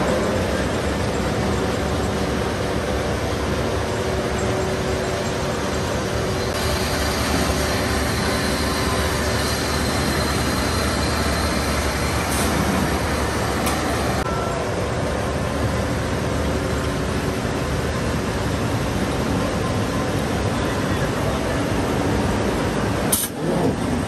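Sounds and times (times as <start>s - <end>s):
rolling mill machinery running: 0.0s - 24.0s.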